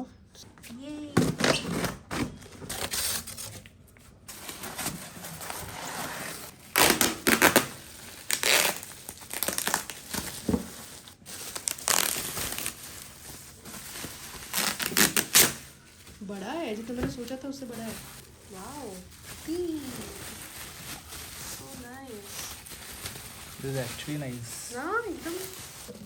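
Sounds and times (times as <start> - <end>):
packaging tearing and rustling: 1.2 - 26.0.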